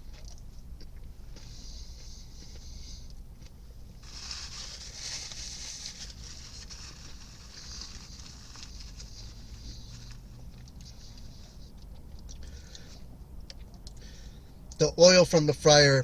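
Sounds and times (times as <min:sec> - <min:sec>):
crunching and chewing fried food: 0:00.0 - 0:14.8
steady low hum: 0:00.0 - 0:16.0.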